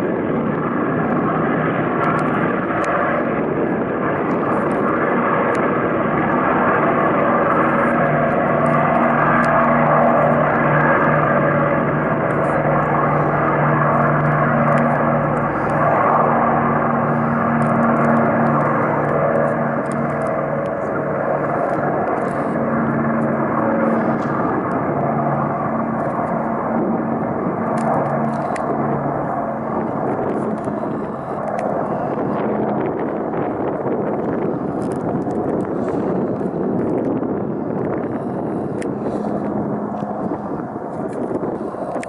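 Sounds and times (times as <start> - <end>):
propeller plane engine drone: 0.0 - 42.0.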